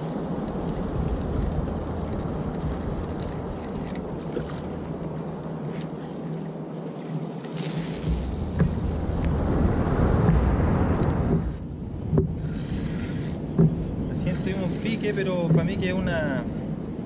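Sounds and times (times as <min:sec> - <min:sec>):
wind on microphone: 0:00.0 - 0:06.0, 0:07.0 - 0:17.0
water against kayak hull: 0:00.0 - 0:17.0.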